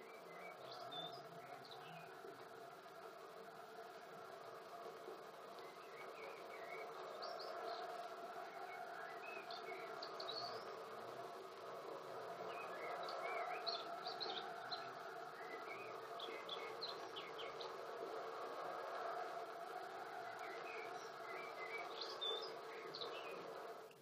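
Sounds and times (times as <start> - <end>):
faint birdsong chirps: 0.0 - 24.0
steady background hiss: 0.0 - 24.0.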